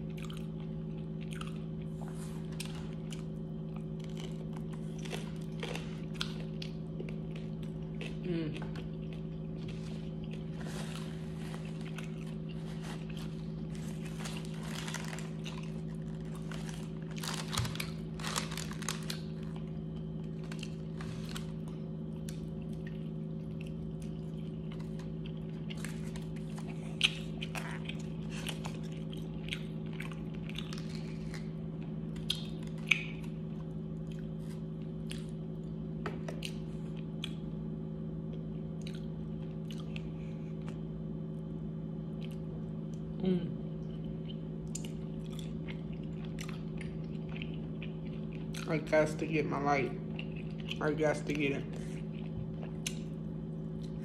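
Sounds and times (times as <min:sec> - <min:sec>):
person crunching and chewing: 0:00.0 - 0:37.6, 0:38.3 - 0:40.9, 0:43.8 - 0:54.0
steady low hum: 0:00.0 - 0:54.0.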